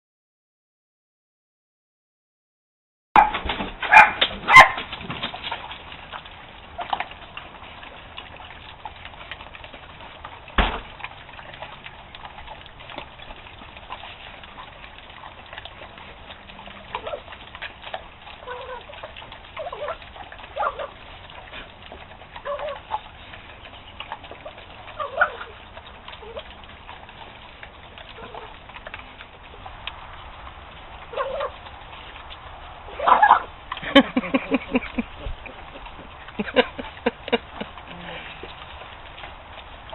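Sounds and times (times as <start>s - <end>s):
dogs eating: 3.2s - 39.9s.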